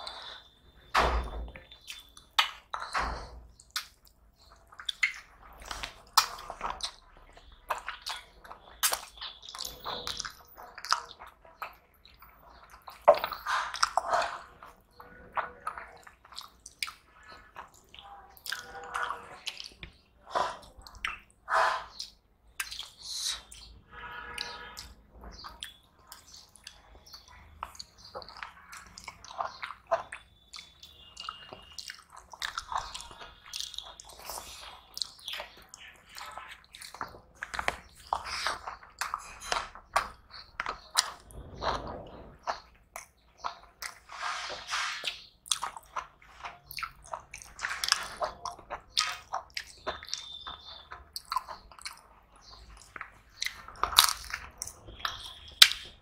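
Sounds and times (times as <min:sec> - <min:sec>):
fingers squishing rice and curry: 0:00.0 - 0:56.0
people chewing and lip smacking: 0:00.0 - 0:56.0.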